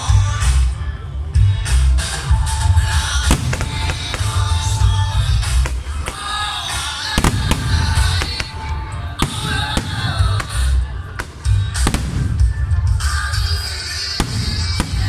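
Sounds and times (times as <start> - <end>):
loud music with heavy bass: 0.0 - 15.0
fireworks bangs: 1.8 - 15.0.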